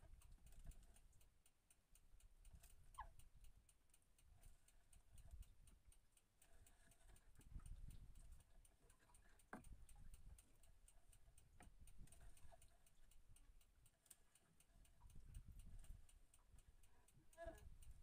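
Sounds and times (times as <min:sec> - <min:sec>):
faint regular ticking: 0:00.0 - 0:18.0.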